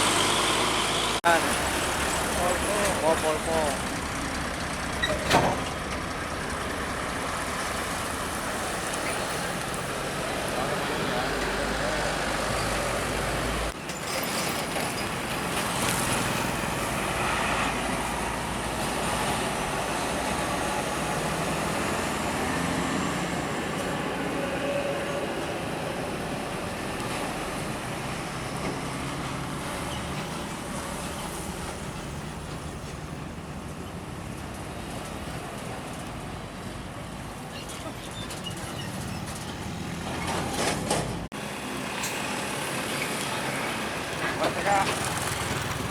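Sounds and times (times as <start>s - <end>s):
engine and tyre noise: 0.0s - 45.9s
heavy trucks going by: 0.0s - 45.9s.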